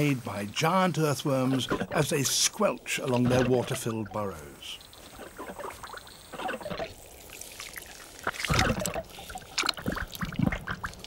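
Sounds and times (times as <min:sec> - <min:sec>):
earthworms gurgling and squelching: 0:01.0 - 0:11.0.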